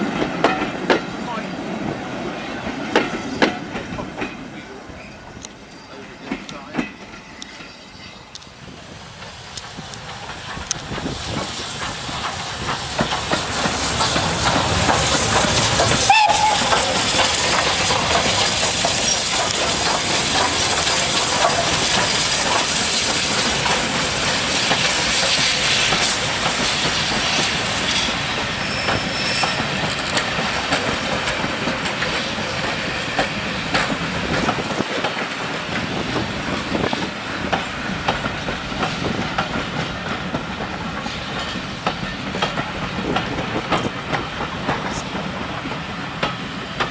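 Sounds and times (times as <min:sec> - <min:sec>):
steam train passing: 0:00.0 - 0:46.9
wheels clicking over rail joints: 0:08.3 - 0:46.9.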